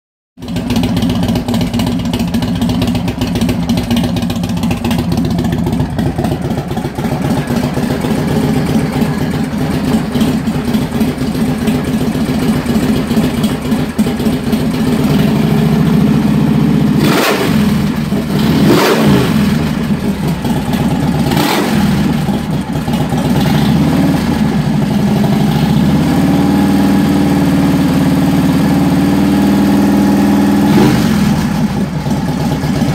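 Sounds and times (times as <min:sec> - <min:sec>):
motorcycle engine idling and revving: 0:00.4 - 0:32.9.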